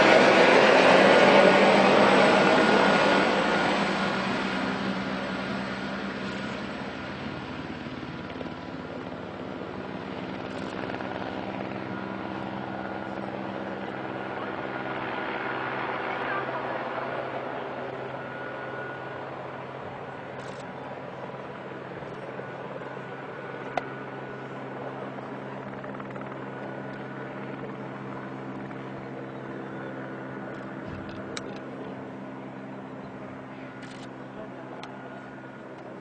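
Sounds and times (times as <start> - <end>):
aircraft droning overhead: 0.0 - 36.0.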